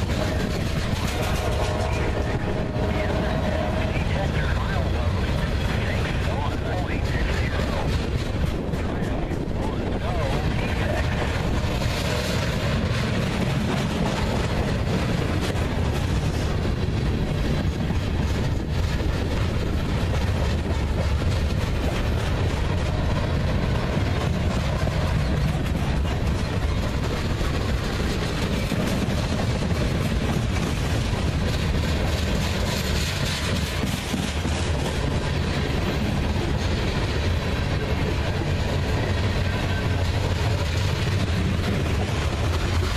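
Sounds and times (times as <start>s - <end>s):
train rumbling past: 0.0s - 42.9s.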